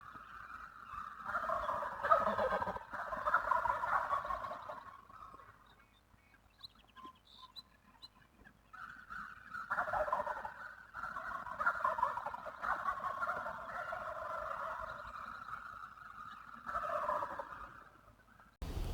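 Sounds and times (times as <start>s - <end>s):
wild turkey gobbling: 0.1s - 5.7s, 8.7s - 18.9s.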